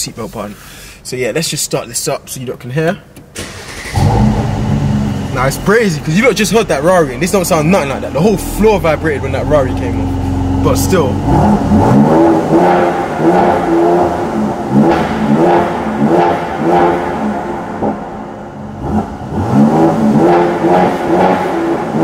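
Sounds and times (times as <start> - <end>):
car engine revving: 3.4 - 22.0.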